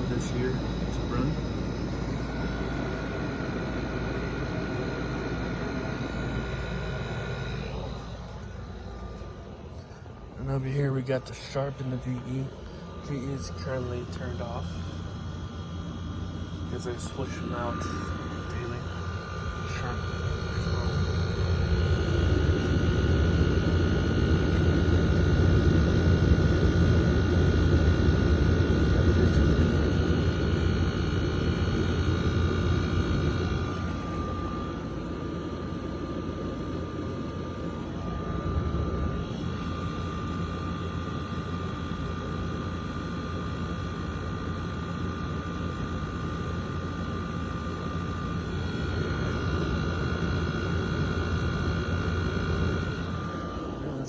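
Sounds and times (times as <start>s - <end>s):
air conditioner drone: 0.0s - 54.0s
high steady whine: 0.0s - 54.0s.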